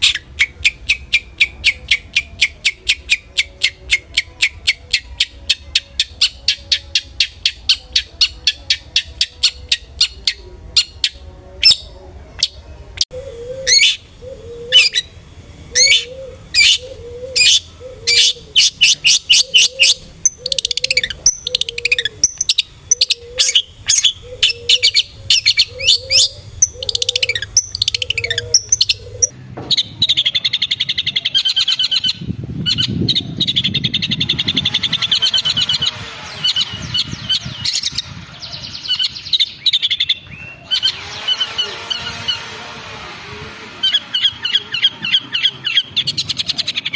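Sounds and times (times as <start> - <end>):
shrike calling: 0.0 - 46.9.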